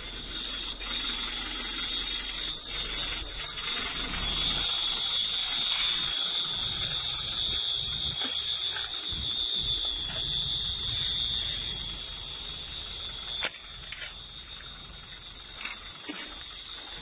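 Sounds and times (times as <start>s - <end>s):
alarm high-pitched tone: 0.0s - 17.0s
low rumbling noise: 0.0s - 17.0s.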